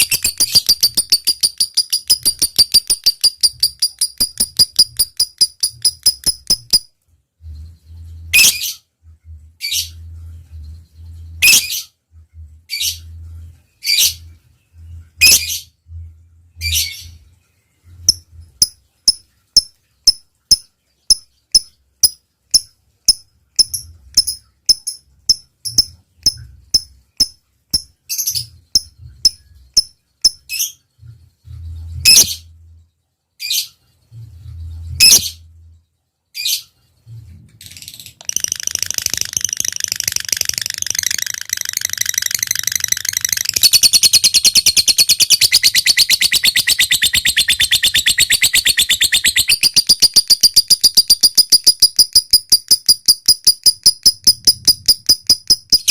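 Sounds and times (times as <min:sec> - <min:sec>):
lovebird chirping and trilling: 0:00.0 - 0:08.9, 0:09.6 - 0:12.0, 0:12.7 - 0:13.2, 0:13.8 - 0:15.8, 0:16.6 - 0:17.2, 0:18.0 - 0:32.6, 0:34.4 - 0:35.5, 0:37.6 - 0:55.9.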